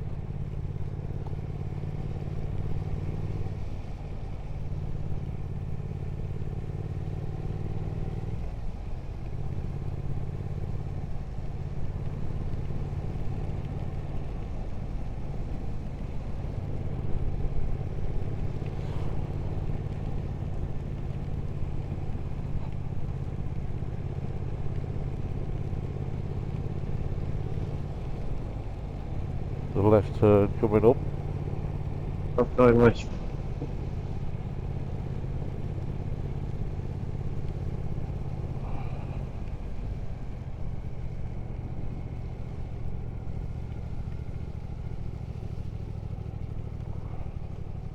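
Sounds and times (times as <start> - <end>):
motorcycle engine running: 0.0 - 47.9
wind and road noise: 0.0 - 47.9.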